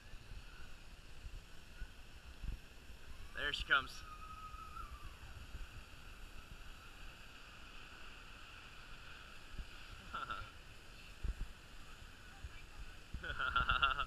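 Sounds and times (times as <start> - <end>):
outdoor background hiss: 0.0 - 14.0
wind rumble on microphone: 0.0 - 14.0.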